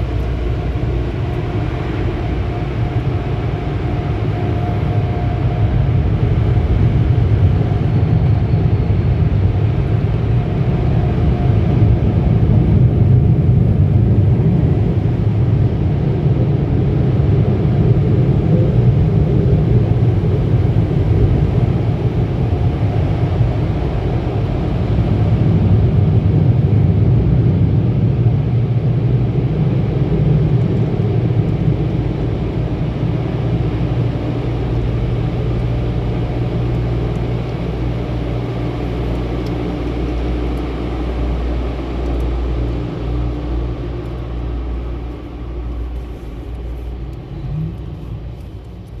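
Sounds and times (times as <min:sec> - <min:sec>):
car wash machinery rumbling: 0:00.0 - 0:49.0
constant low hum: 0:00.0 - 0:49.0.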